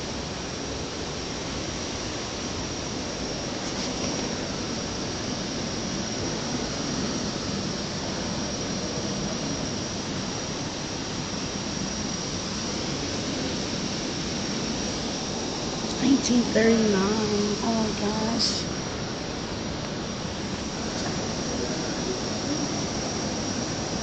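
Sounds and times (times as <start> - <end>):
faint high whine: 0.0 - 24.0
room noise hiss: 0.0 - 24.0.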